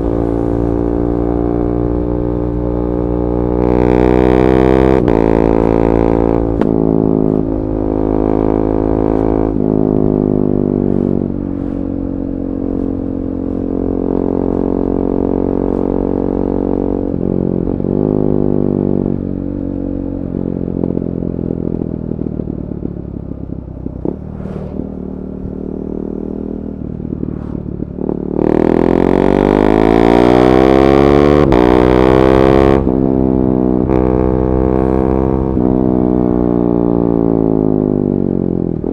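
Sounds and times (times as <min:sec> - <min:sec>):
motorcycle engine exhaust note: 0:00.0 - 0:38.9.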